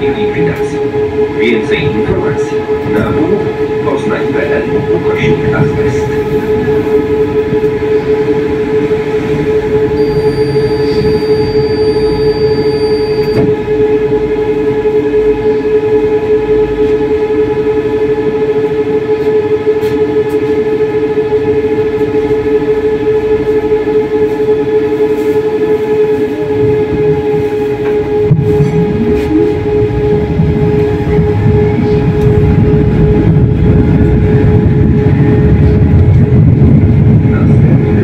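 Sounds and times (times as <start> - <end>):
low whine rising in pitch: 0.0 - 38.0
tram electric whine: 0.0 - 38.0
wheels rumbling on rails: 0.0 - 38.0.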